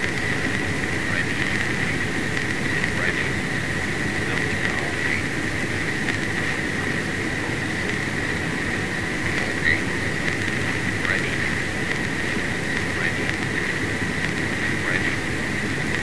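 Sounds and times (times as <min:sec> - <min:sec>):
propeller plane engines droning: 0:00.0 - 0:16.0.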